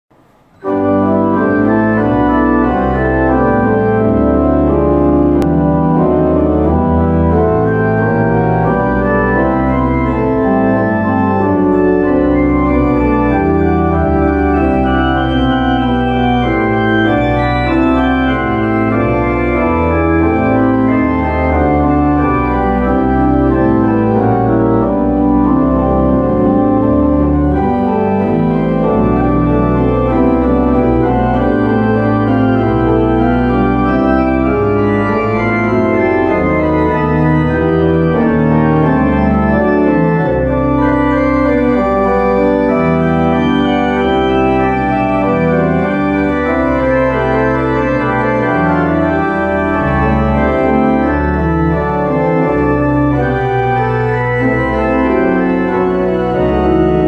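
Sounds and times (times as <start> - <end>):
pipe organ playing: 0.2 - 57.0.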